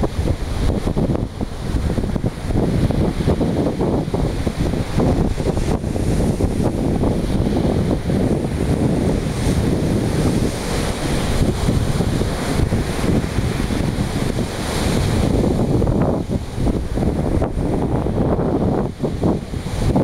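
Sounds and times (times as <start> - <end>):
sea waves washing in: 0.0 - 20.0
wind buffeting microphone: 0.0 - 20.0.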